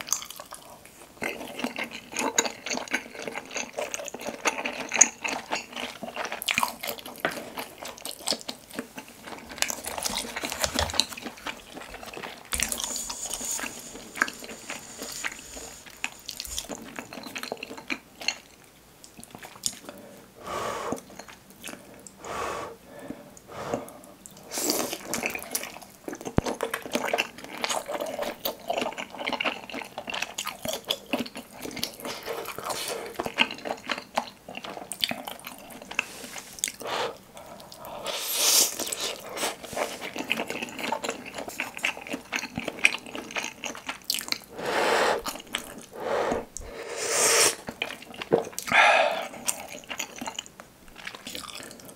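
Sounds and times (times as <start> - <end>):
chewing with wet mouth clicks: 0.0 - 20.0, 21.0 - 22.2, 24.2 - 36.8, 38.7 - 44.6, 45.2 - 45.9, 47.6 - 51.9.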